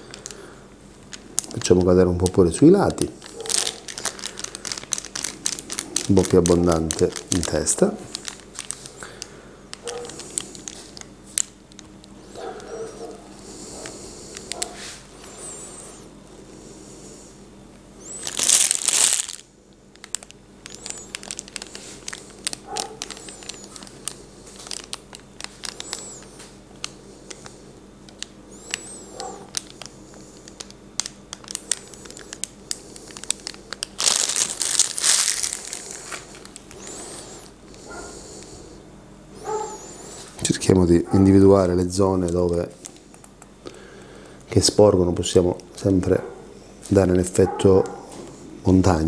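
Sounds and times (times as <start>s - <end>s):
plastic piping bag crinkling: 0.0s - 16.0s, 18.0s - 38.7s, 39.4s - 49.0s.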